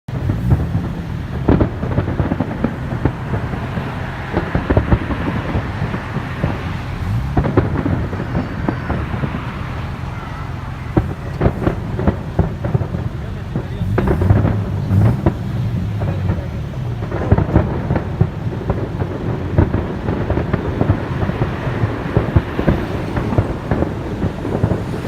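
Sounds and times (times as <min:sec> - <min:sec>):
continuous low rumble: 0:00.1 - 0:25.0
fireworks bangs and crackles: 0:00.1 - 0:25.0.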